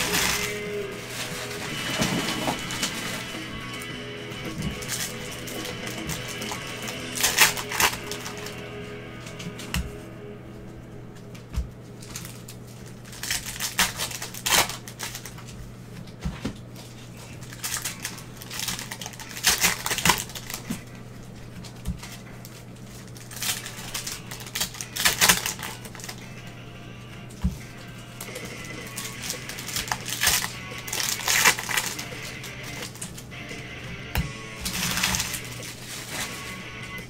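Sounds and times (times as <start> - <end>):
steady low hum: 0.0 - 37.0
wrappers and cards rustling: 0.0 - 37.0.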